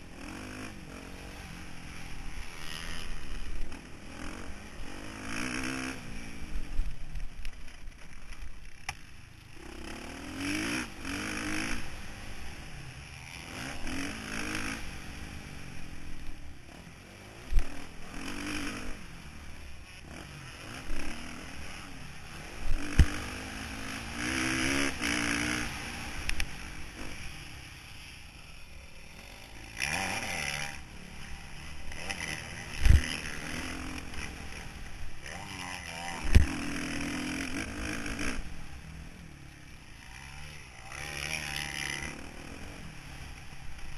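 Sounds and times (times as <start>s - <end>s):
motorbike engine revving: 0.0s - 6.7s, 9.5s - 43.9s.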